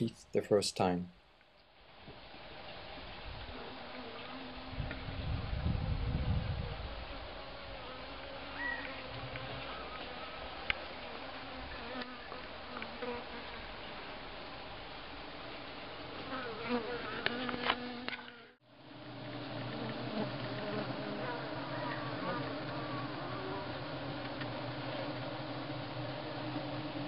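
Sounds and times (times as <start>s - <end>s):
honeybee swarm humming: 2.2s - 27.0s.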